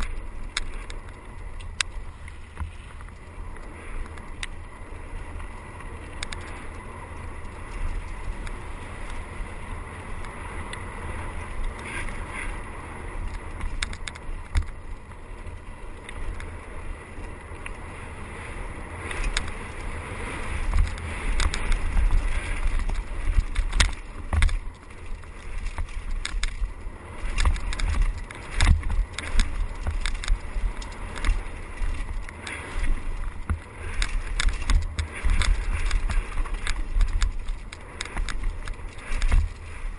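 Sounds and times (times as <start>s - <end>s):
bike rattling and knocking: 0.0s - 18.0s, 18.8s - 39.9s
tyres on dirt and gravel: 0.0s - 39.9s
wind rumbling on microphone: 0.0s - 39.9s.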